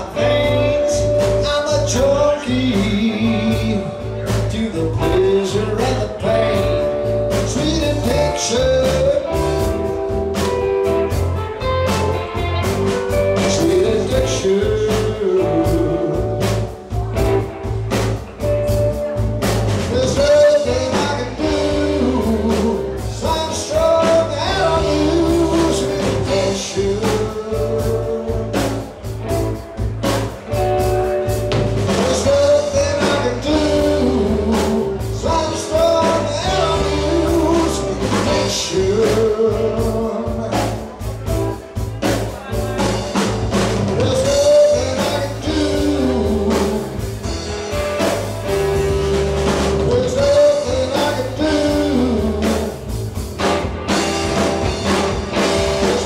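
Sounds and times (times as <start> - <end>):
blues-rock band playing: 0.0 - 56.0
sliding bending lead guitar: 0.0 - 56.0.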